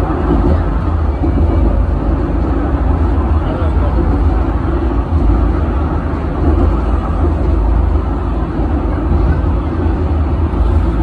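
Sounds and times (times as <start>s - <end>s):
funicular car rumbling on track: 0.0s - 11.0s.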